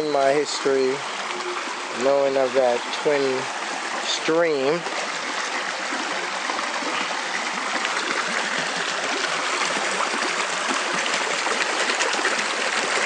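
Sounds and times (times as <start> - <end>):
water cascading over rocks: 0.0 - 13.0.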